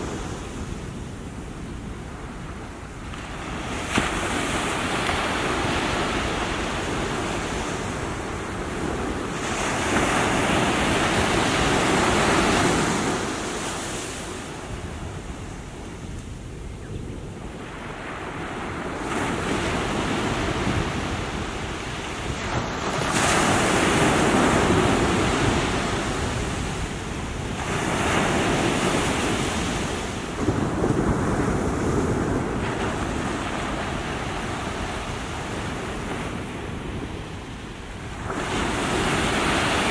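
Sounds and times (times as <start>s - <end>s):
small waves breaking on shore: 0.0s - 16.5s, 17.4s - 39.9s.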